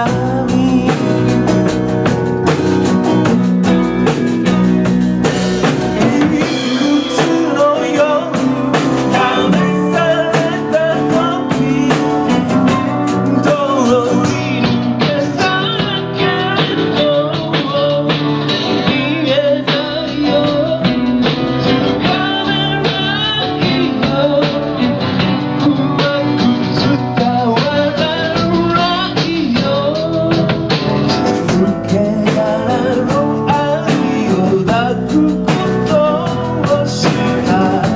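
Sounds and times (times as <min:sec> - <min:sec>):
live rock band playing: 0:00.0 - 0:37.9.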